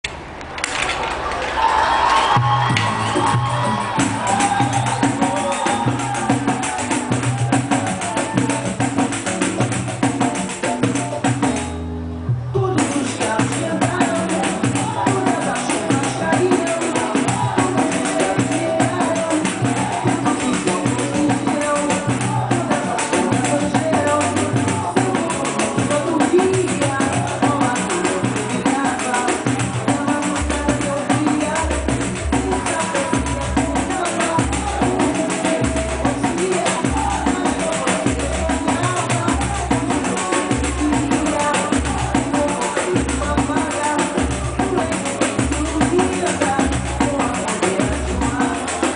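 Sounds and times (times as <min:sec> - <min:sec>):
pandeiro samba rhythm: 0:00.6 - 0:48.9
bass line: 0:02.2 - 0:48.9
person singing: 0:02.4 - 0:11.5, 0:12.4 - 0:48.9.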